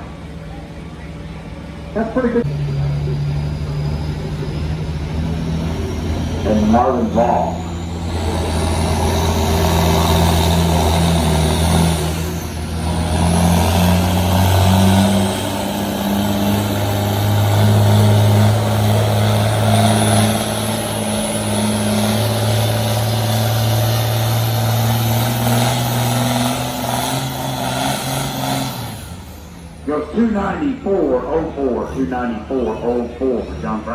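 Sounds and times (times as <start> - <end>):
tractor engine under full load: 0.0 - 33.9.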